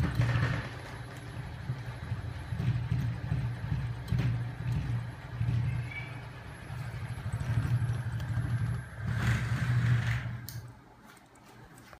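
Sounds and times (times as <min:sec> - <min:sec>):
machine rhythmic rumble and clatter: 0:00.0 - 0:12.0.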